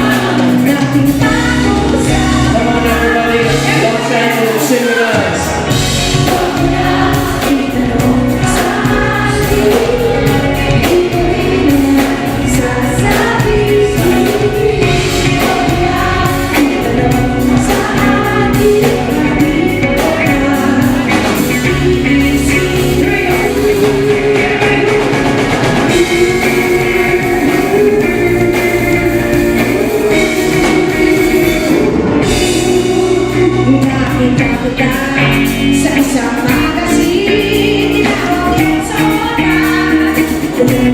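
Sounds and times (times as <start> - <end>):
drums and bass: 0.0 - 40.9
person singing: 0.0 - 40.9.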